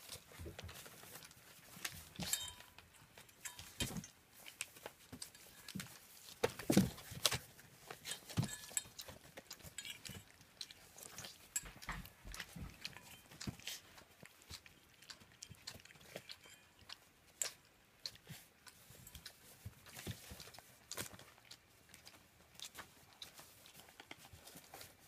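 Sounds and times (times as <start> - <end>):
puppies crunching kibble: 0.0 - 25.0.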